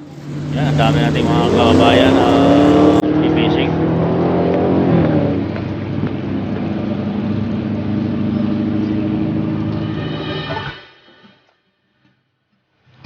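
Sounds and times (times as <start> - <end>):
engine humming steadily: 0.0 - 10.8.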